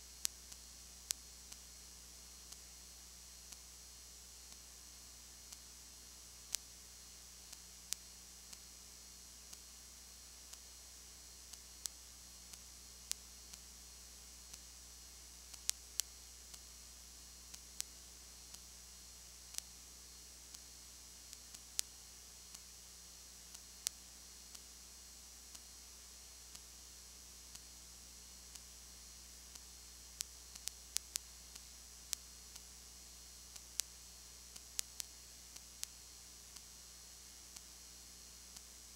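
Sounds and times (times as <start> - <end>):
faint steady hiss and hum: 0.0 - 38.9.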